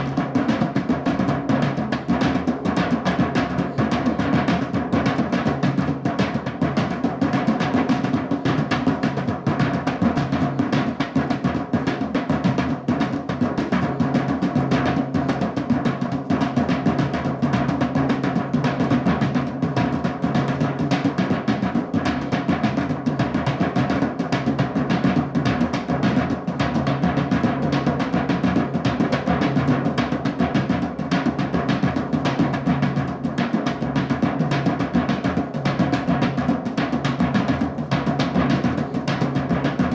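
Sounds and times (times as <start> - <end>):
fast drumming: 0.0 - 39.9.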